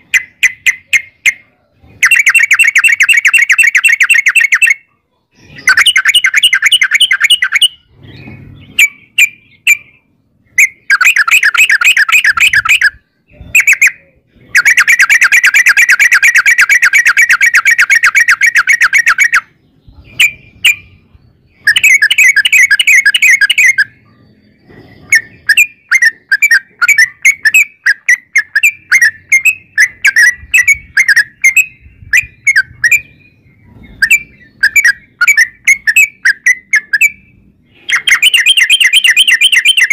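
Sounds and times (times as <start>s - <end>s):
bird singing chattering runs: 0.0s - 39.9s.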